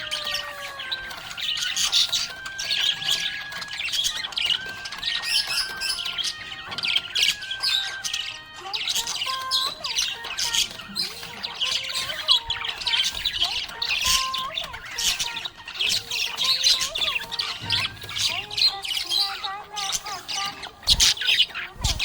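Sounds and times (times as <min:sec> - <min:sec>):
budgie chirping and warbling: 0:00.0 - 0:22.0.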